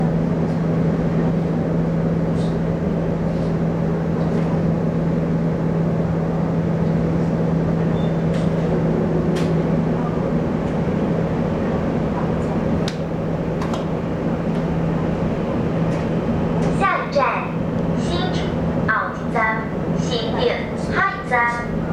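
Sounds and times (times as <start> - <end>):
train hum and rumbling: 0.0 - 21.9.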